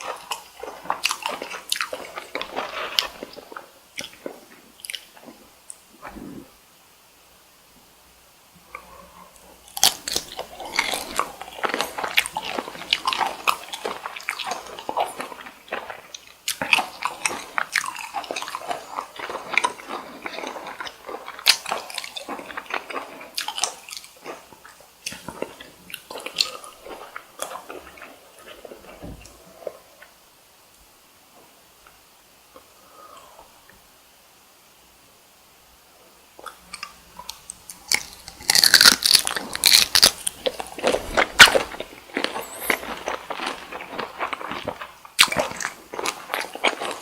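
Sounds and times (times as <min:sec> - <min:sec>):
chewing shrimp: 0:00.0 - 0:06.5, 0:08.6 - 0:30.2, 0:36.4 - 0:47.0.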